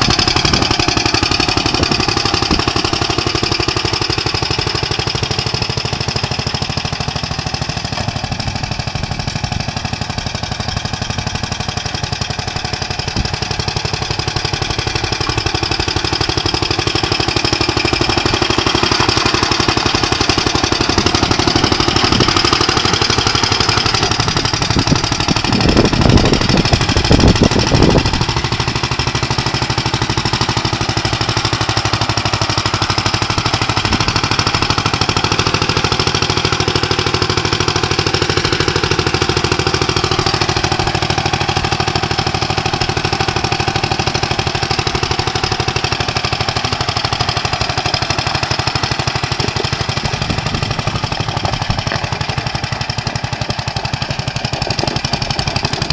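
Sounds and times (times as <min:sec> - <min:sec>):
engine running with rapid beat: 0:00.0 - 0:55.9.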